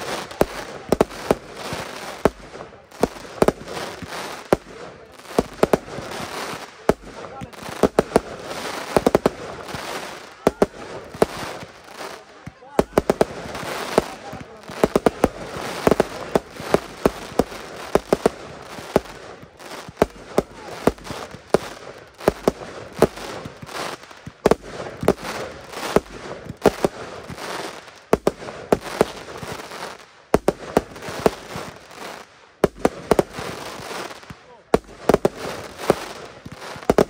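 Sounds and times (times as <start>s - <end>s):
fireworks bangs: 0.0s - 37.0s
fireworks crackle: 0.0s - 37.0s.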